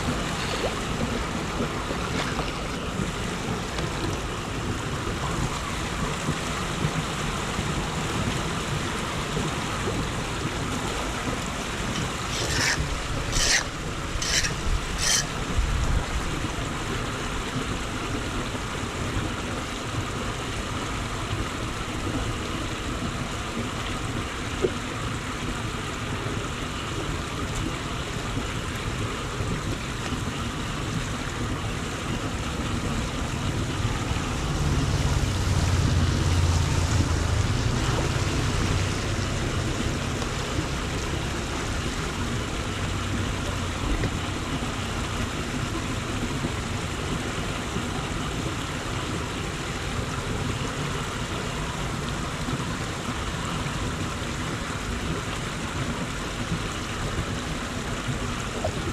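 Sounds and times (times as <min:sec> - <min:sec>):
floodwater rushing: 0:00.0 - 0:58.9.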